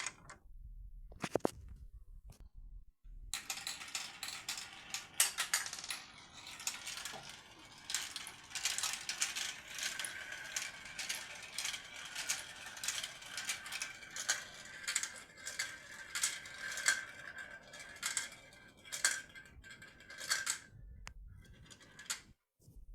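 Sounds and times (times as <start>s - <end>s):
faint ringing of rolling marbles: 3.3s - 22.4s
marbles clattering down marble run: 3.4s - 22.3s.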